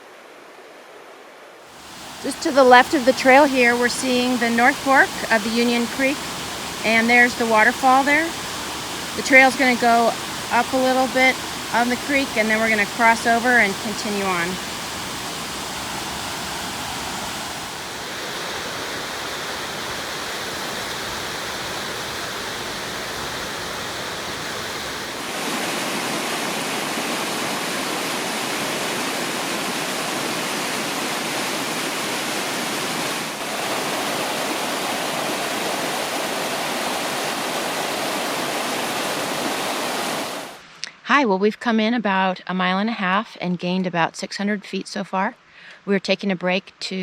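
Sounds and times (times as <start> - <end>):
creek and waterfall rushing: 0.0 - 40.7.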